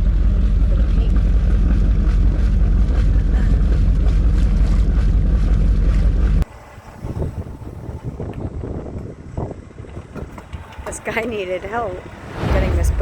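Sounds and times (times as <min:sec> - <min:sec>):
boat machinery rumbling: 0:00.0 - 0:13.0.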